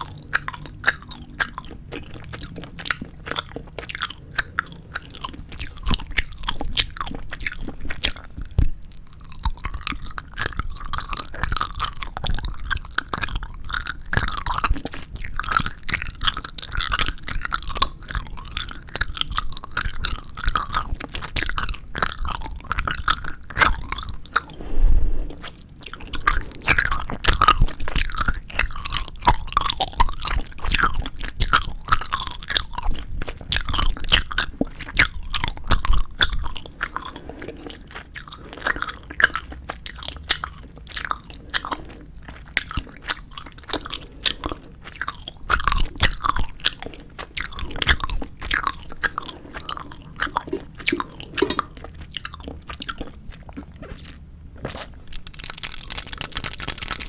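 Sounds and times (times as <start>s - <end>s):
chewing gummy candies: 0.0s - 24.6s, 25.3s - 57.0s.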